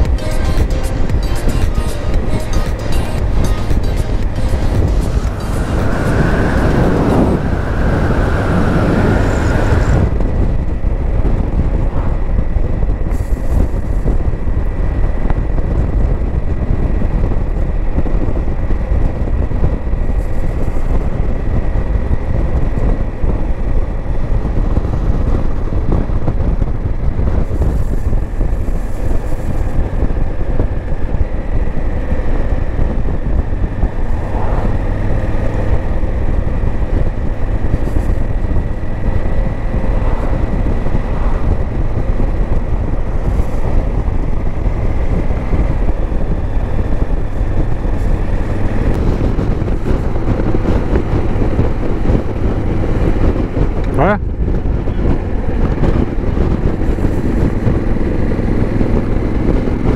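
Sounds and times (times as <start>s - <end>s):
high whine: 0.0s - 59.9s
motorcycle engine cruising: 0.0s - 59.9s.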